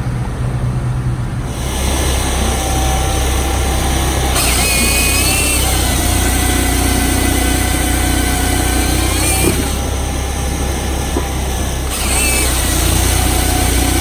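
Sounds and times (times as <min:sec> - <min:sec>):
engine low drone: 0:00.0 - 0:14.0
wavering whine: 0:01.3 - 0:14.0.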